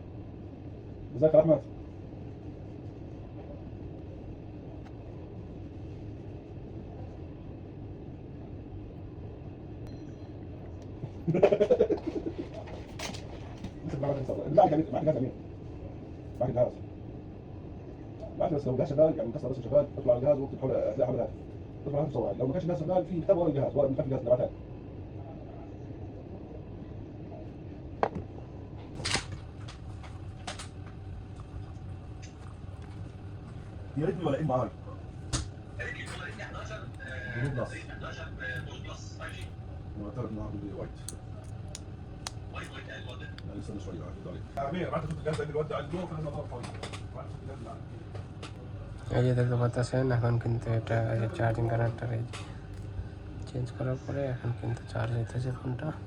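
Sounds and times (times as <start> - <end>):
low room rumble: 0.0 - 56.0
steady low hum: 0.0 - 56.0.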